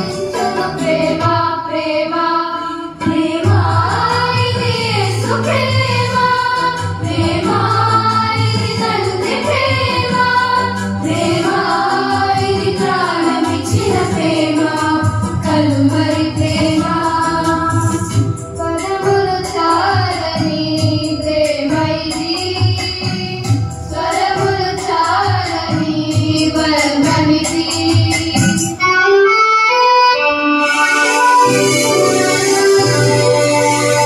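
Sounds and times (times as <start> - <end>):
girls singing through microphones: 0.0 - 28.8
electronic keyboard accompaniment: 0.0 - 34.0.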